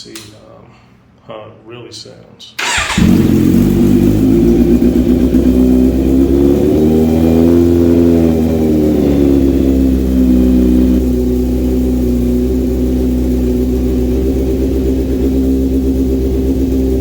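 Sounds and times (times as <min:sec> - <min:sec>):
motorcycle engine idling: 0:02.6 - 0:17.0.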